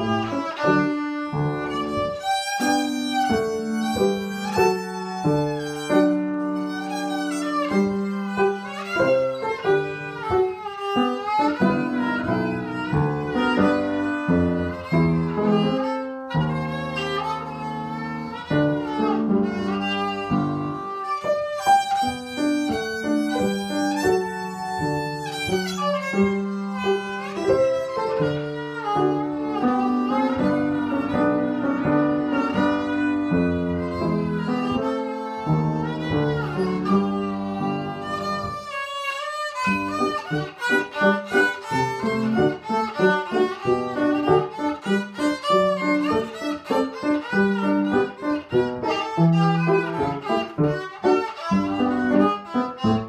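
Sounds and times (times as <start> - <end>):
child playing violin: 0.0 - 53.0.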